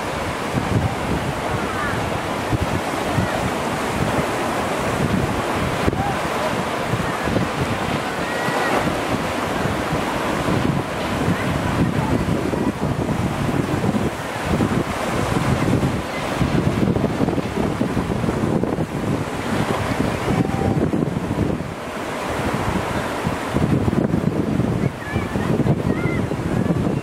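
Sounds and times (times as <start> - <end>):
strong gusty wind buffeting microphone: 0.0 - 27.0.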